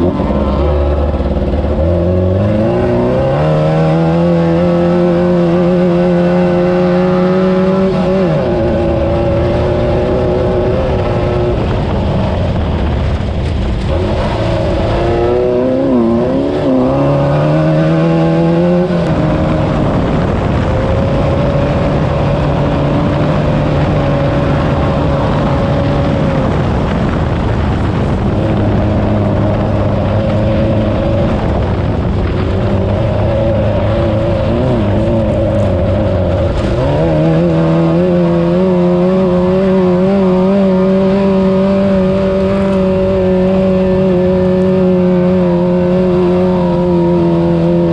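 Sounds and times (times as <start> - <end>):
engine revving under load: 0.0 - 47.9
rough rumble and rattle: 0.0 - 47.9.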